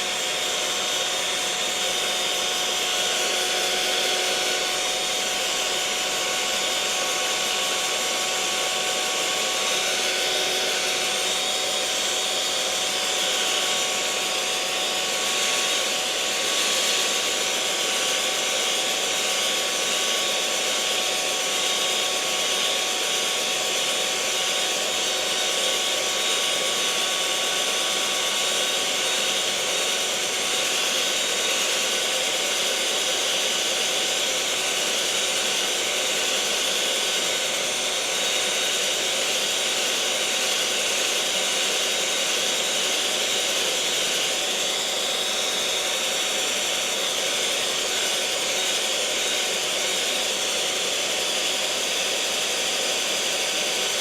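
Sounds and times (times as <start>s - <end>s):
electric mixer motor whirring: 0.0s - 54.0s.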